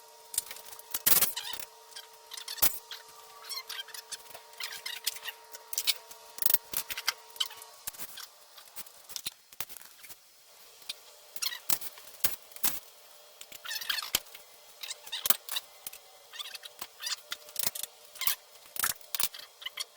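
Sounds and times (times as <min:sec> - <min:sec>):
faint steady hum: 0:00.0 - 0:19.9
small objects clicking and scraping: 0:00.3 - 0:10.2, 0:13.4 - 0:19.9.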